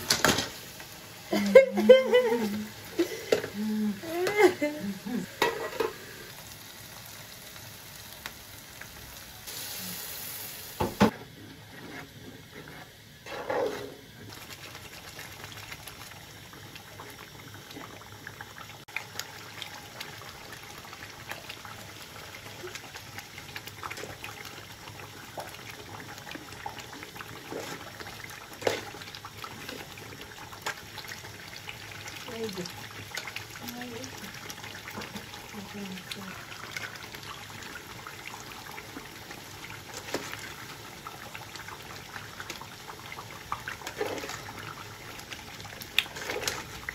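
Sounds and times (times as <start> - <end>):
stew bubbling in pot: 0.0 - 10.1, 10.8 - 46.9.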